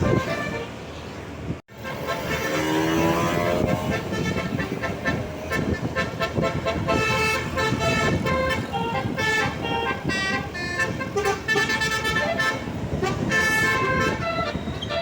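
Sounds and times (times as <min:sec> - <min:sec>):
bus musical horn playing a tune: 0:00.0 - 0:00.8, 0:01.7 - 0:15.0
road traffic: 0:00.0 - 0:15.0.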